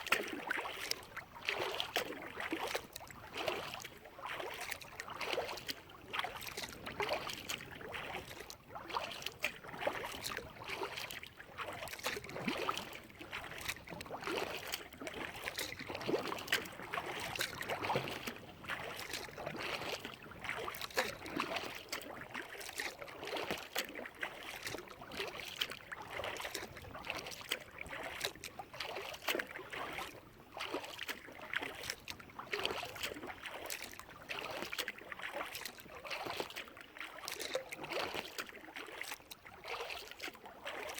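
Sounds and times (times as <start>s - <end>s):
kayak paddle splashes: 0.0s - 40.9s.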